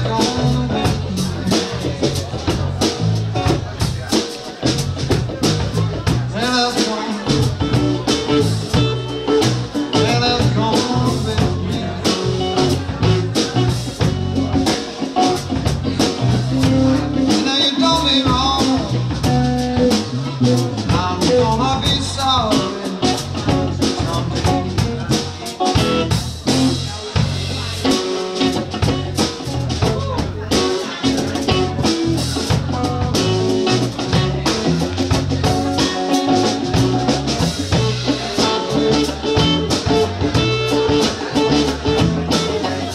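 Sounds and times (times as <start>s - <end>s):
drum kit steady beat: 0.0s - 42.9s
electric guitars: 0.0s - 42.9s.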